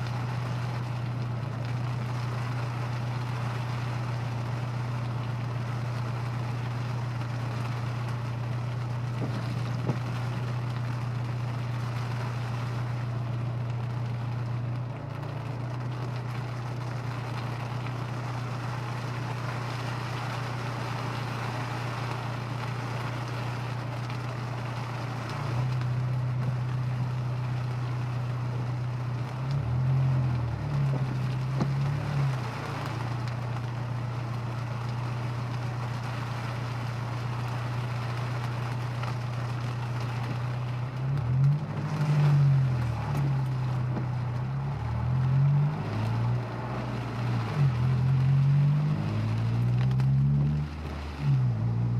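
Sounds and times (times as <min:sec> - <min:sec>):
car engine droning: 0:00.0 - 0:51.9
road and rain noise: 0:00.0 - 0:51.9.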